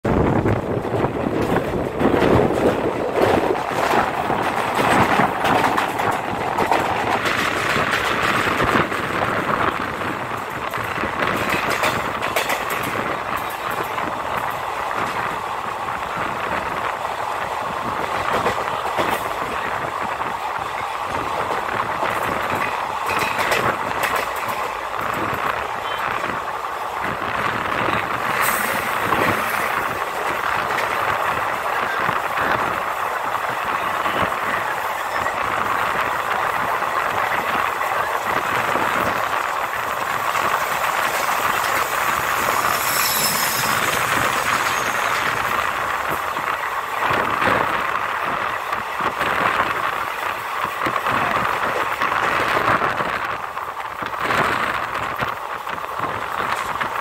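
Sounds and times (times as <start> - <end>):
freight train passing: 0.0 - 57.0
wheels rushing on rail: 0.0 - 57.0
wind: 0.0 - 57.0.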